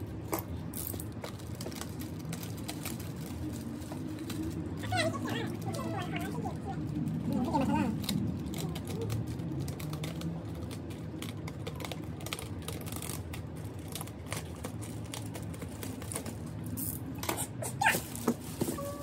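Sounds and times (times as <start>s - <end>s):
plastic bag crinkling: 0.6s - 17.1s.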